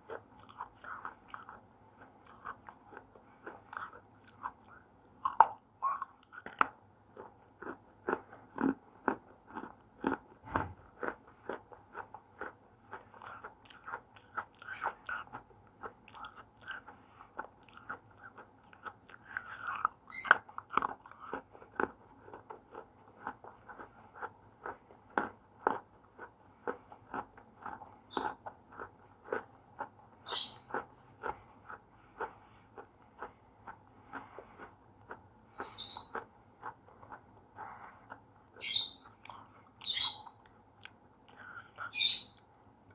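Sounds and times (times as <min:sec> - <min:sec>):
hard crunches of chewing: 0:00.0 - 0:42.9.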